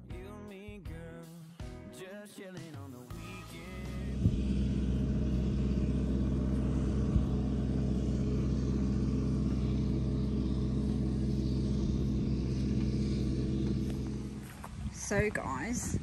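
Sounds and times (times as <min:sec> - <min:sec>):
vehicle engine humming: 0:03.1 - 0:16.0.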